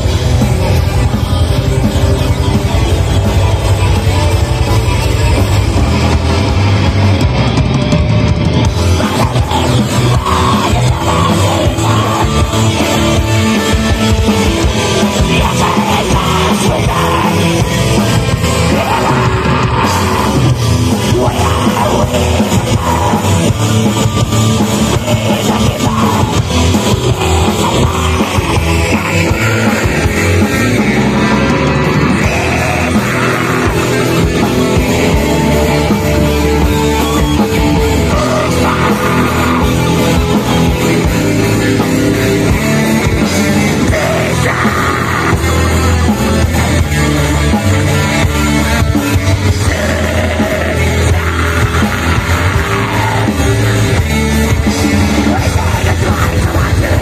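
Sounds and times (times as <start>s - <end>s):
distorted electric guitars: 0.0s - 57.0s
drums: 0.0s - 57.0s.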